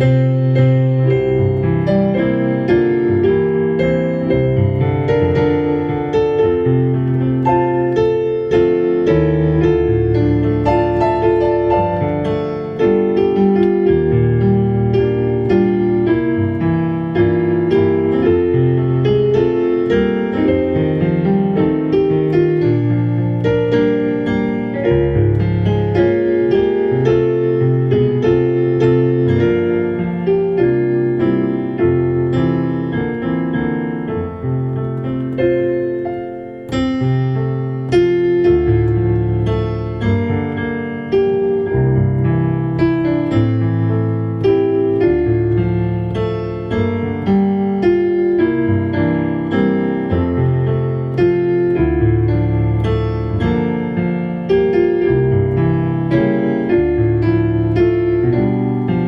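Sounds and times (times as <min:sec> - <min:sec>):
slow solo piano: 0:00.0 - 0:59.0.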